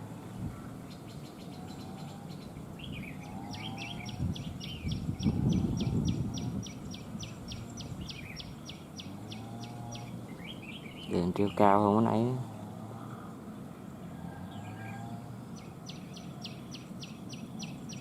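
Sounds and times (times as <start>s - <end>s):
bulbuls calling: 0.0s - 18.0s.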